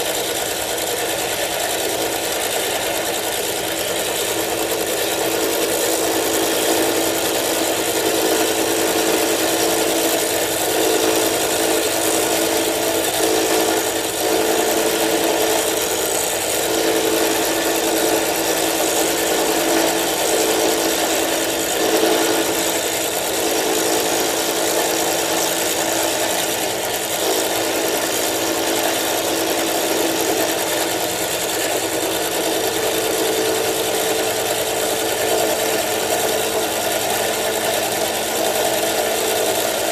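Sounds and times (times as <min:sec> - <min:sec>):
milling cutter cutting metal: 0:00.0 - 0:39.9
milling machine hum: 0:00.0 - 0:39.9.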